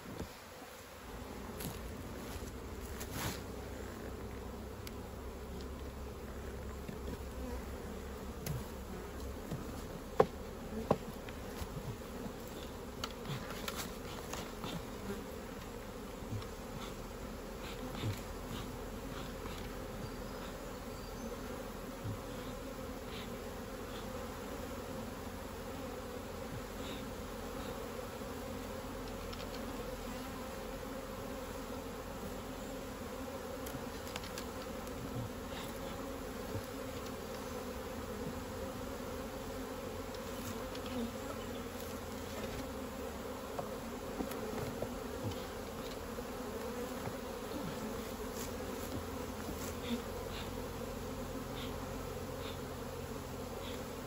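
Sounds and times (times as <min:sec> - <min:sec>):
honeybees buzzing: 0:00.0 - 0:54.0.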